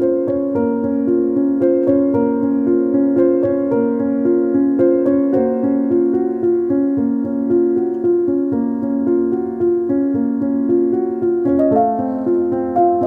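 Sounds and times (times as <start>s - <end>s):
gentle keyboard melody: 0.0s - 13.0s.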